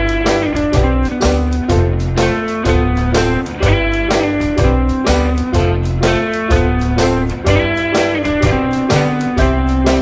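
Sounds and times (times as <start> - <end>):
bass line: 0.0 - 10.0
light guitar tune: 0.0 - 10.0
steady beat: 0.0 - 10.0.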